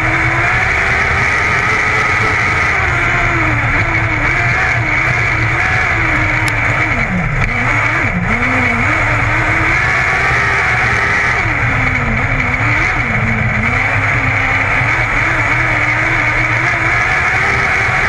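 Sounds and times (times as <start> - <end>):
race car engine running hard: 0.0 - 18.0.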